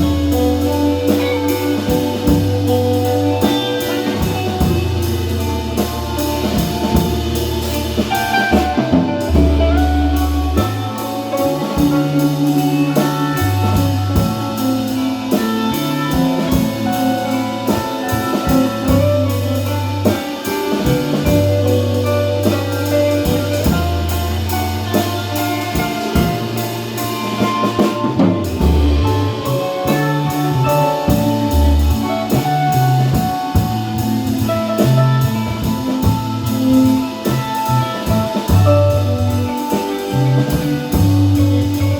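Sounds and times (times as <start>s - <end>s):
drum kit beat: 0.0s - 41.9s
instrumental jazz music: 0.0s - 41.9s
walking bass line: 0.0s - 41.9s.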